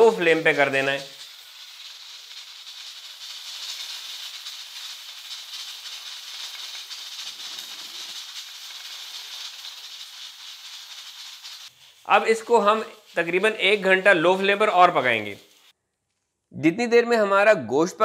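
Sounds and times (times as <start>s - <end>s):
whistle valve rattling: 0.0s - 15.7s
pressure cooker steam hissing: 0.0s - 15.8s.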